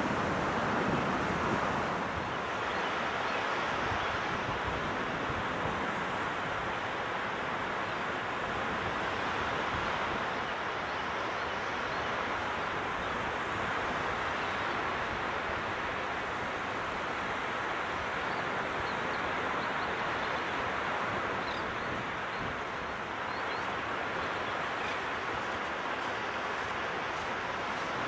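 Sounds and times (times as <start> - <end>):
ocean surf washing onto beach: 0.0 - 28.0.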